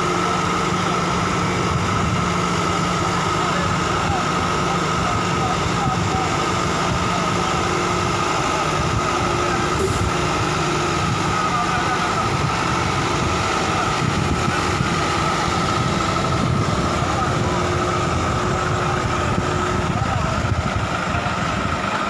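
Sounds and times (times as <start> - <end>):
high whine: 0.0 - 22.0
road roller diesel engine: 0.0 - 22.0.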